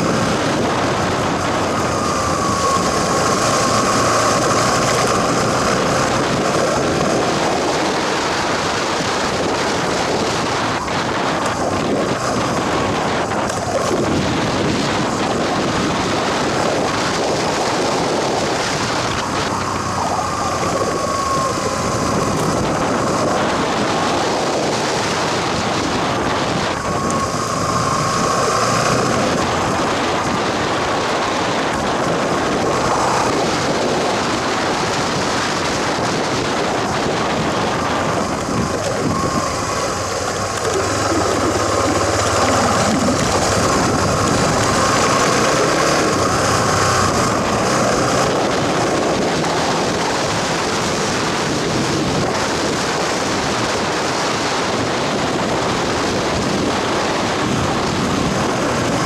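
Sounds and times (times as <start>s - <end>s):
vehicle engine on gravel road: 0.0s - 59.0s
wind on microphone: 0.0s - 59.0s.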